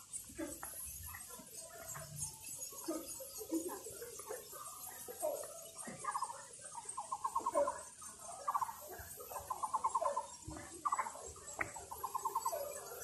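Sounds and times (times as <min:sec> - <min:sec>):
animal rattling trills: 0:00.0 - 0:13.0.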